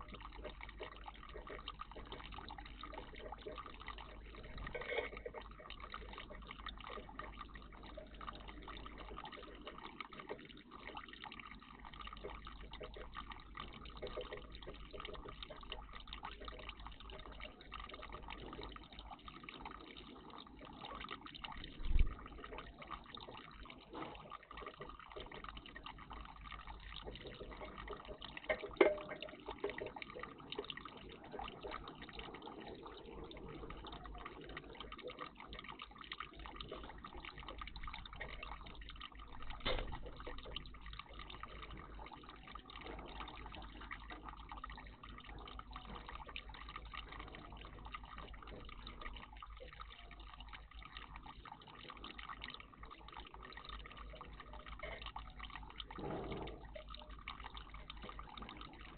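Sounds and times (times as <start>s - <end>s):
water splashes: 0.0s - 58.9s
water trickling and dripping: 0.0s - 58.9s.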